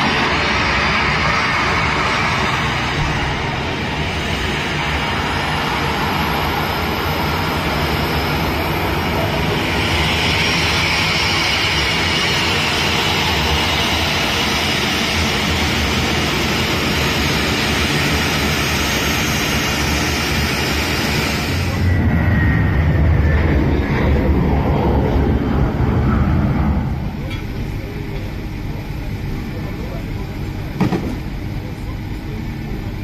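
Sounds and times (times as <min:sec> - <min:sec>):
jet engine hissing whine: 0:00.0 - 0:33.0
jet engines rumbling at idle: 0:00.0 - 0:33.0.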